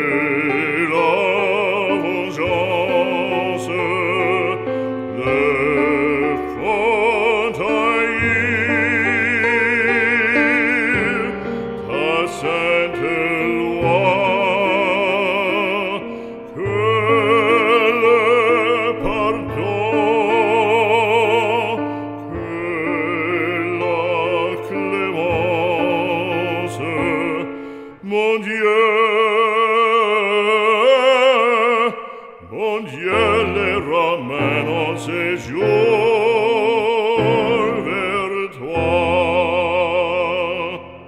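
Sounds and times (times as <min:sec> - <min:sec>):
operatic hymn singing: 0:00.0 - 0:41.0.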